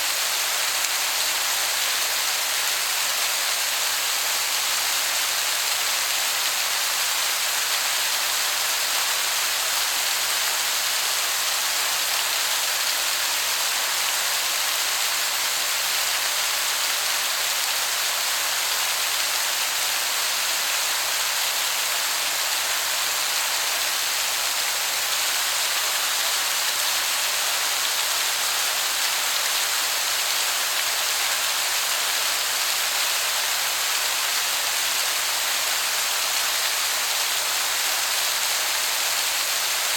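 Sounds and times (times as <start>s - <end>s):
distant waterfall rushing: 0.0s - 39.9s.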